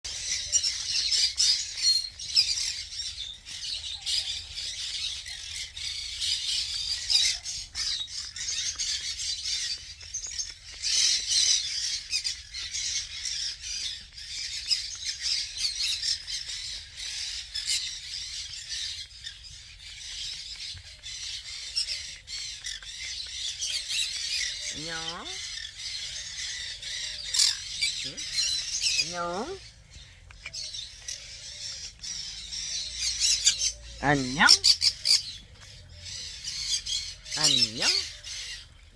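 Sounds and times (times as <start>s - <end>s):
parrots chattering and squawking: 0.1s - 38.9s.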